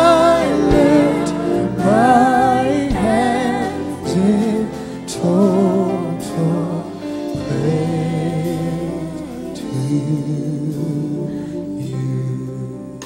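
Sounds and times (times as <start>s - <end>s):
instrumental accompaniment: 0.0s - 13.0s
person singing with vibrato: 0.0s - 13.0s.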